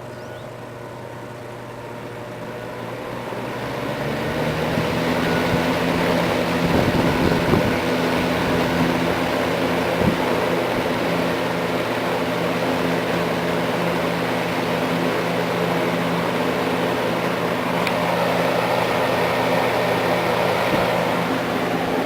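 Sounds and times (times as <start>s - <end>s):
box fan running: 0.0s - 22.0s
motor hum: 0.0s - 22.0s.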